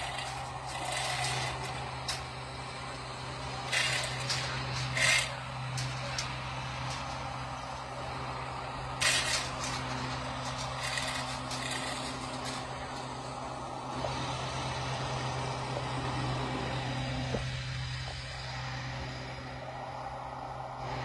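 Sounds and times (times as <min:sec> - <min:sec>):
crane engine running: 0:00.0 - 0:21.0.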